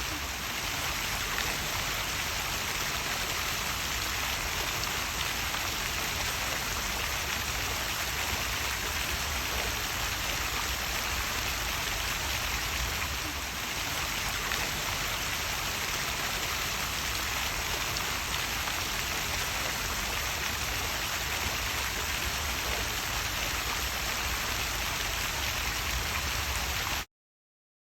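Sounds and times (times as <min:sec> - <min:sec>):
waterfall rushing water: 0:00.0 - 0:27.0.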